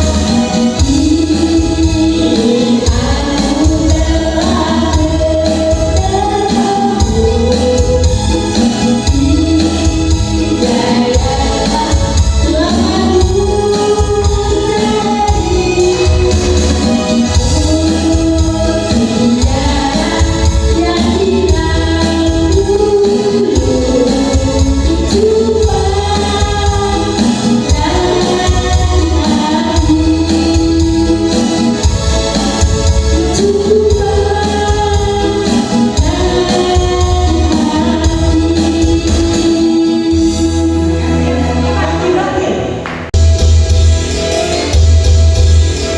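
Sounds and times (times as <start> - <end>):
person singing: 0.0 - 42.8
loud music with heavy bass: 0.0 - 45.9.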